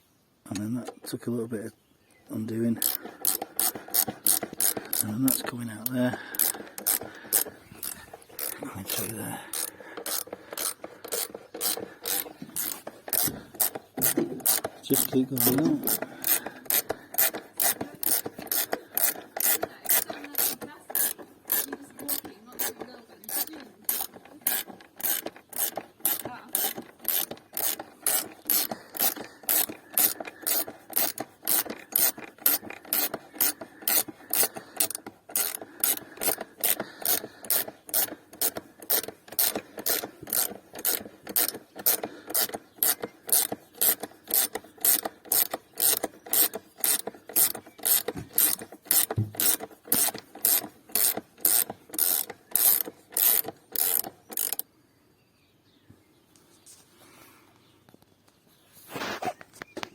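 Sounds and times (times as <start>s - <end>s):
faint scraping rub of spindle: 2.8s - 54.6s, 58.7s - 59.7s
ratchet wrench clicking: 2.8s - 54.6s.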